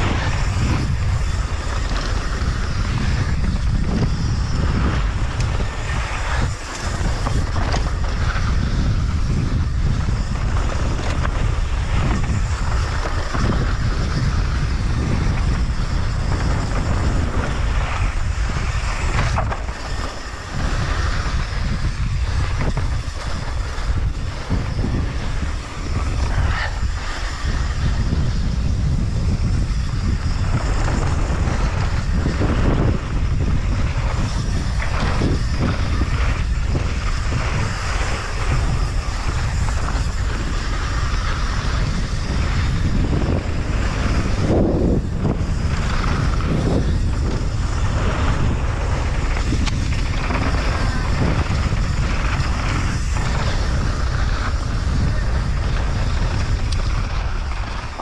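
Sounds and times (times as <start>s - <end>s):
bike rattling over bumps: 0.0s - 58.0s
tyres rolling over loose dirt: 0.0s - 58.0s
wind rushing over microphone: 0.0s - 58.0s.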